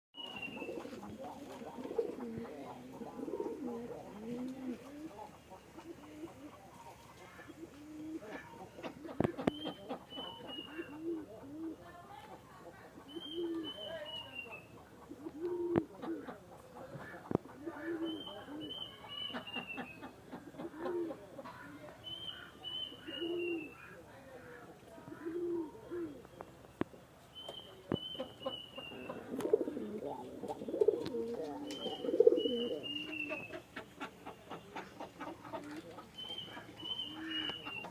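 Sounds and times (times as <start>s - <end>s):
pigeons cooing: 0.2s - 27.1s, 27.8s - 37.9s.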